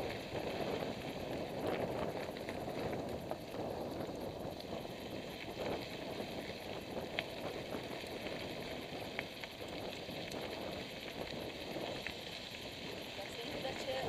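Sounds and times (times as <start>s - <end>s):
bike tyres rolling on gravel: 0.0s - 14.0s.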